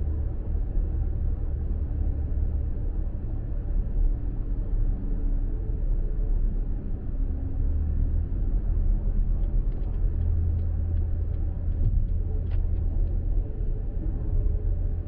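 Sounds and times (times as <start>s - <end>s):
road rumble inside moving car: 0.0s - 15.0s.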